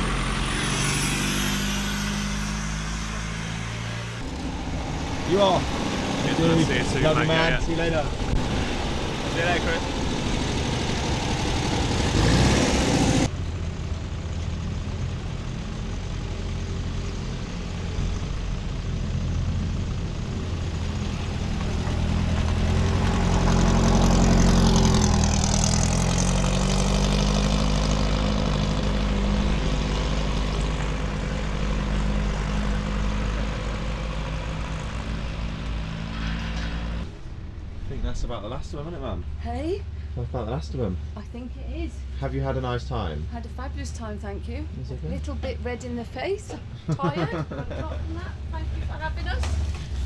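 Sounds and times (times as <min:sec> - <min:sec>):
cars driving off: 0:00.0 - 0:50.0.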